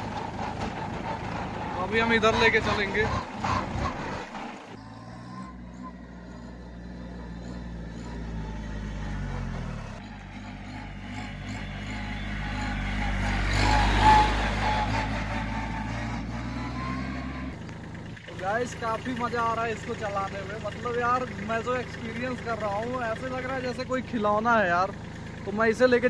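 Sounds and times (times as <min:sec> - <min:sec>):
diesel tractor engine passing: 0:00.0 - 0:26.0.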